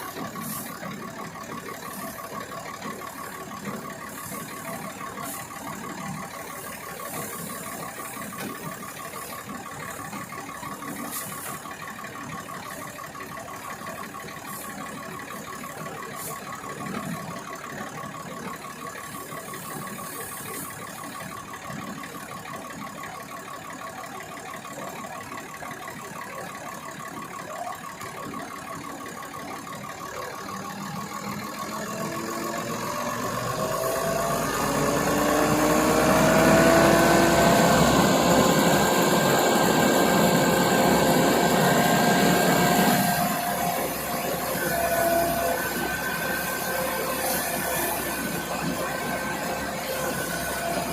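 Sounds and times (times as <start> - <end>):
threshing machine engine whine: 0.0 - 50.9.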